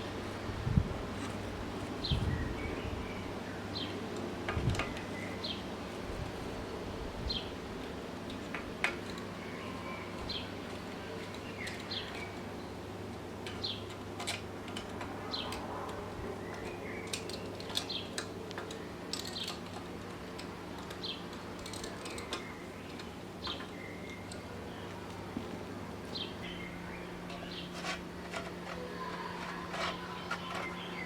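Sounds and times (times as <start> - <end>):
steady low hum: 0.0 - 31.0
birds chirping: 1.2 - 4.2, 4.8 - 31.0.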